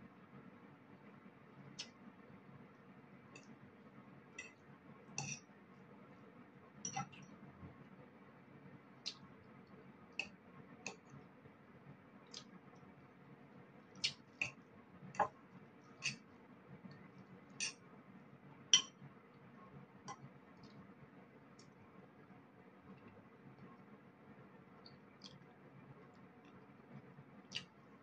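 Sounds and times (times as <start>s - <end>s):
faint room hum: 0.0s - 28.0s.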